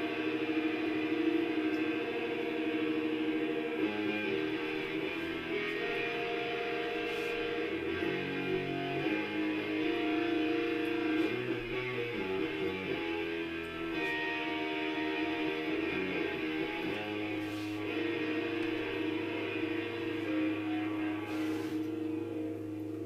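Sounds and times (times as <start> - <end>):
electric guitar chords: 0.0 - 23.0.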